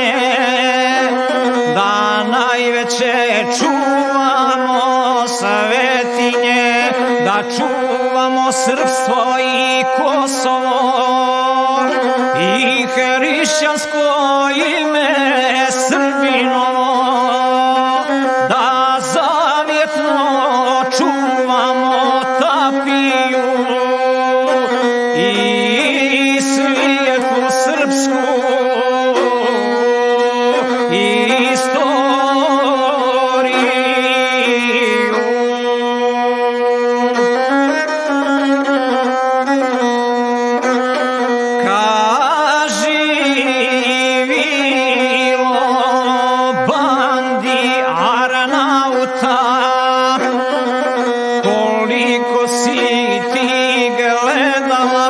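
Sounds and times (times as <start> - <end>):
single-string bowed instrument melody: 0.0 - 55.0.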